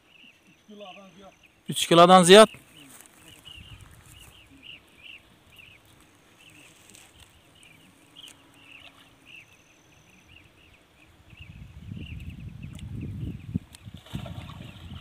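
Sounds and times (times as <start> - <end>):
low outdoor noise: 0.0 - 14.7.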